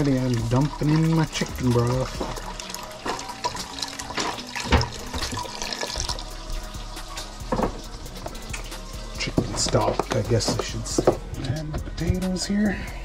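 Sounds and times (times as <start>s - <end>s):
liquid pouring into a pot: 0.0s - 11.0s.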